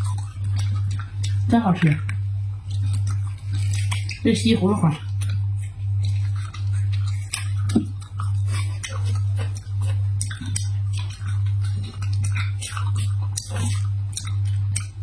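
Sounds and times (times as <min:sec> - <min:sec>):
crisp chewing crunches: 0:00.0 - 0:15.0
loud low pulsing hum: 0:00.0 - 0:15.0.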